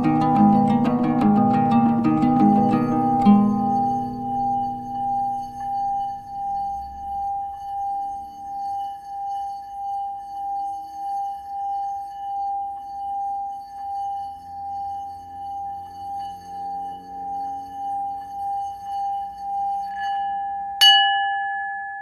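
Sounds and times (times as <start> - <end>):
singing bowl ringing: 0.0 - 22.0.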